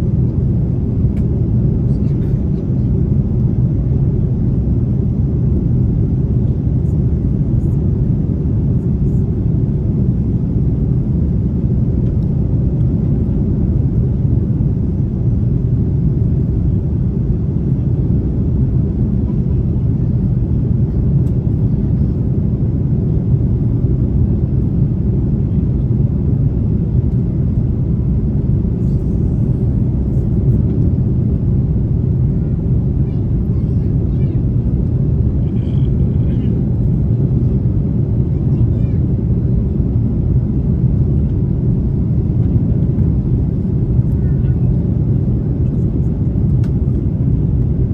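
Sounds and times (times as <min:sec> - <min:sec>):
airplane cabin engine rumble: 0:00.0 - 0:47.9.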